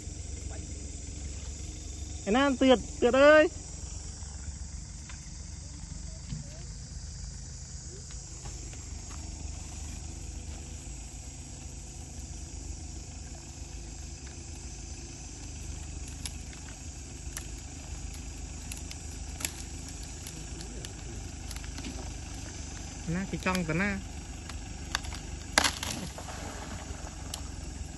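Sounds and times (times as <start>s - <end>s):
high insect drone: 0.0s - 27.9s.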